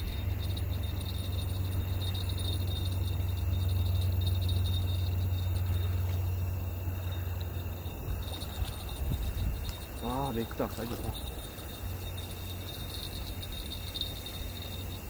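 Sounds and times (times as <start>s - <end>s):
crickets chirping: 0.0s - 15.0s
steady low rumble: 0.0s - 15.0s.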